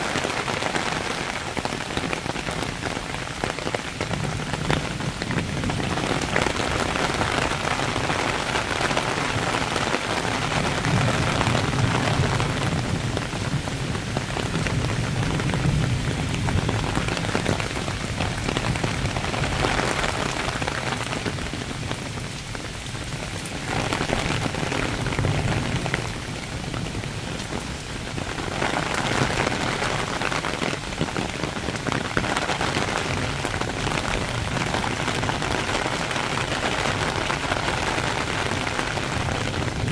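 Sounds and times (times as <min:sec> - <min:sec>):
heavy rain on leaves and pavement: 0:00.0 - 0:39.9.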